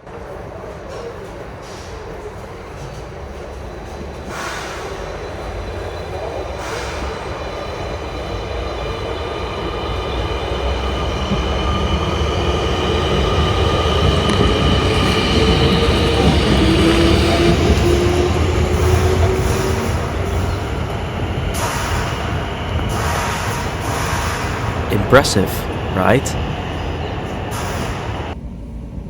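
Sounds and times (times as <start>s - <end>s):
electric train on rails: 0.0s - 29.0s.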